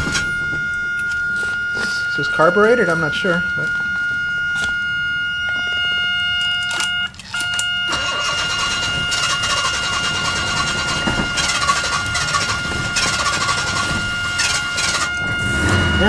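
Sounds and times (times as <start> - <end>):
car starter cranking engine: 0.0 - 16.0
high electronic tone: 0.0 - 16.0.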